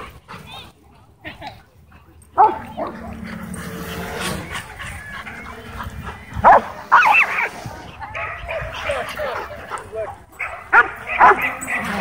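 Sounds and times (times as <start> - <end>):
dogs barking: 2.4 - 12.0.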